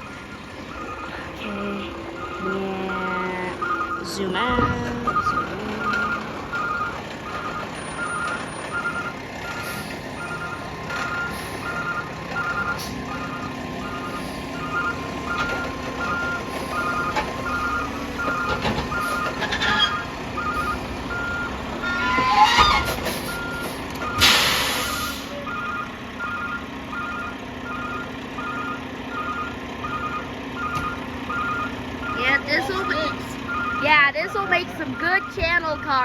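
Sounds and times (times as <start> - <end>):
diesel engine running: 0.0 - 36.0
truck backup alarm beeping: 0.0 - 36.0.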